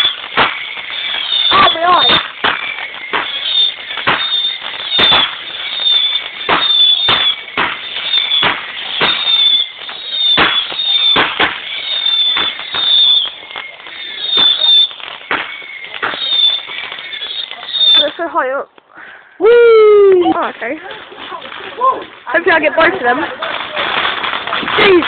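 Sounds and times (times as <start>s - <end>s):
fireworks bangs: 0.0s - 18.5s, 19.4s - 25.0s
fireworks whistles: 0.0s - 18.5s, 19.4s - 25.0s.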